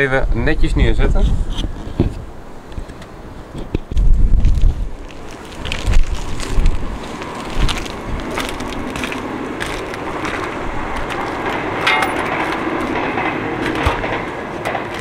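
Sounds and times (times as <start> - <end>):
wind noise on microphone: 0.0 - 15.0
footsteps on rubber roof tiles: 1.4 - 15.0.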